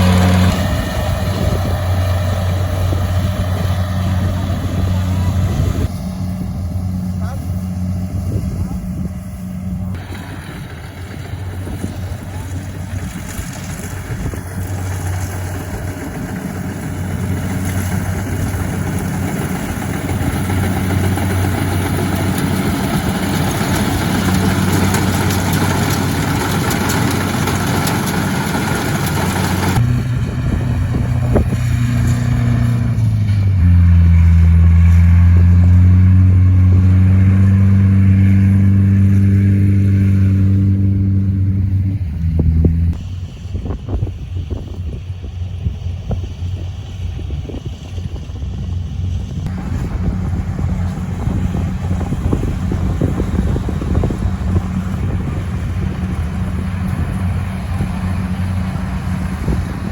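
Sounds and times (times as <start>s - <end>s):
motor engine running: 0.0s - 59.9s.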